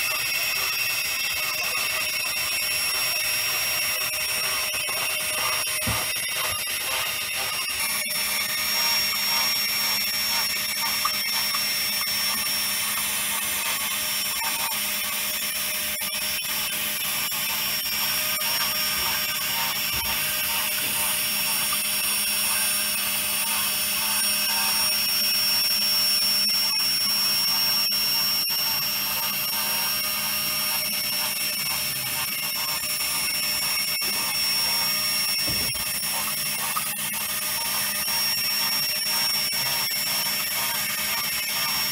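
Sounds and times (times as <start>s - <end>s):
electric motors whirring: 0.0s - 41.9s.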